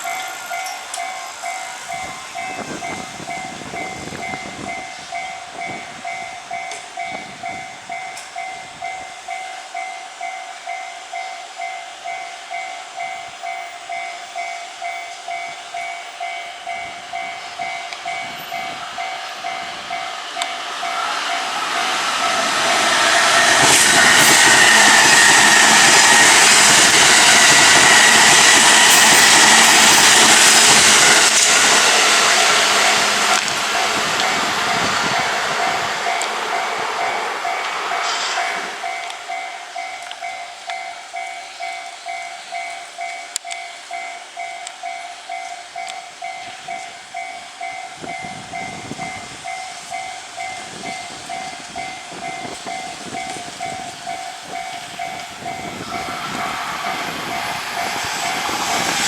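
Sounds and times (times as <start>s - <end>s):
level crossing bell ringing: 0.0s - 22.4s, 27.2s - 58.5s
train passing: 0.0s - 59.0s.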